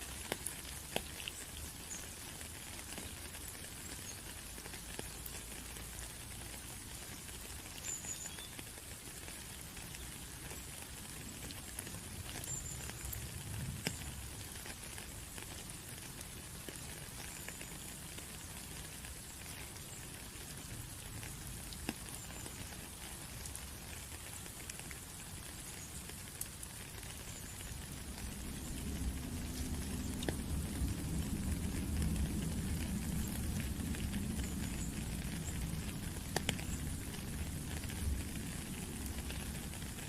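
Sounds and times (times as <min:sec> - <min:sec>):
rain pattering on a surface: 0:00.0 - 0:40.0
sharp drips ticking: 0:00.0 - 0:40.0.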